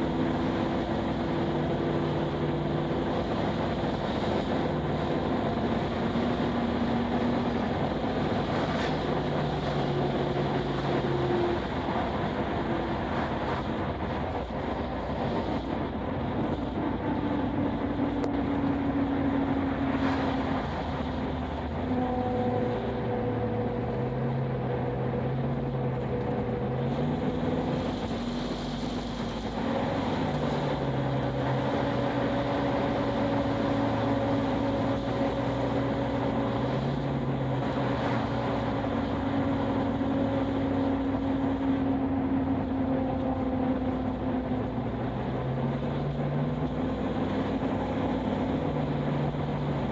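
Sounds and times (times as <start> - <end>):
car engine running: 0.0 - 49.9
road and wind noise: 0.0 - 49.9.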